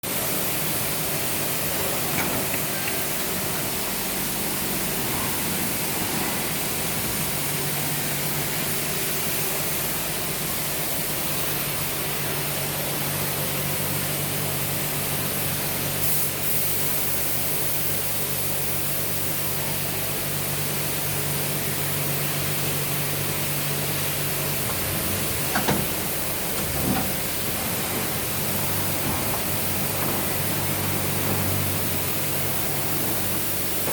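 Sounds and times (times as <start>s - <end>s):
lathe hiss and hum: 0.1s - 33.9s.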